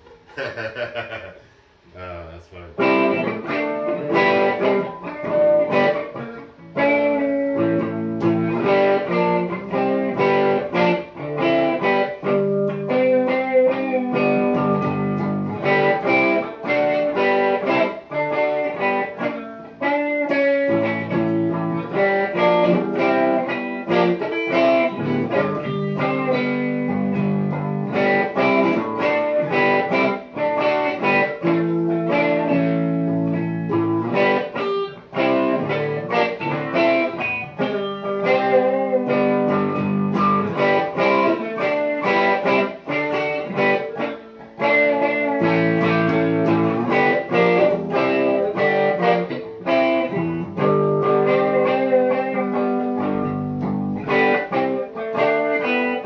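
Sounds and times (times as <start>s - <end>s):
electric guitar playing: 2.7s - 56.0s.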